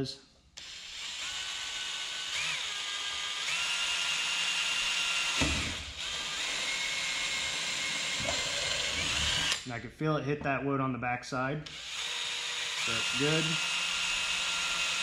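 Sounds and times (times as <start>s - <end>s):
cordless drill whine: 0.6s - 9.6s, 11.7s - 15.0s.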